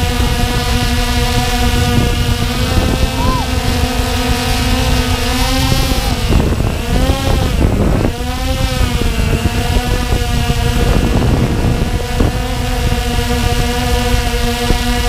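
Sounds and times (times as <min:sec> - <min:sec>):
drone propellers whining: 0:00.0 - 0:15.0
rotor wash rumble: 0:00.0 - 0:15.0.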